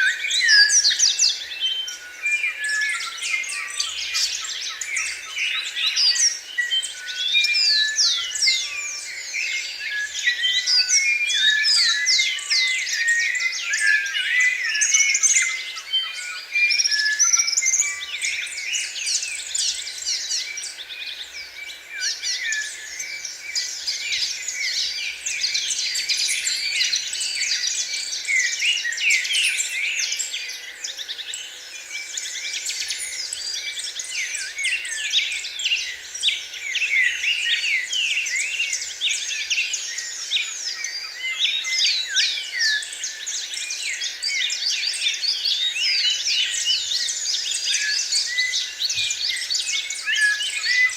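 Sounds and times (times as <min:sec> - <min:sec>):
chorus of small birds chirping: 0:00.0 - 0:50.9.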